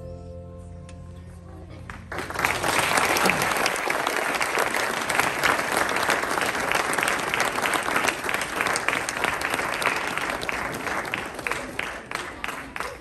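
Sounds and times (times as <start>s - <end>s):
audience applauding: 1.9s - 13.0s.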